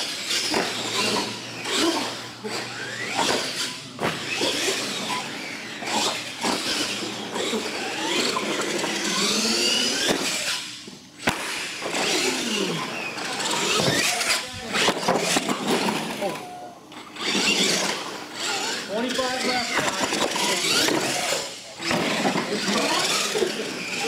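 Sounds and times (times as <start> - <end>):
toy truck motors whining: 0.0 - 24.0.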